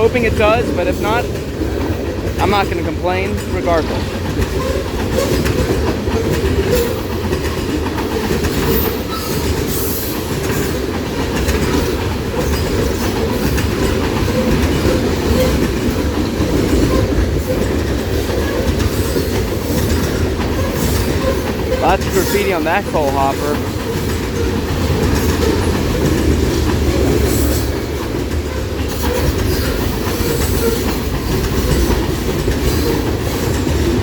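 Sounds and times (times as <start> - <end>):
train wheels rumbling on rails: 0.0 - 34.0
wheels clicking over rail joints: 0.0 - 34.0.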